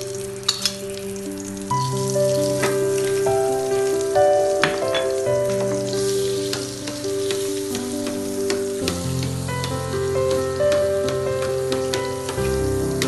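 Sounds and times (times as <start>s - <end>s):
background music: 0.0s - 13.0s
food sizzling in hot oil: 0.0s - 13.0s.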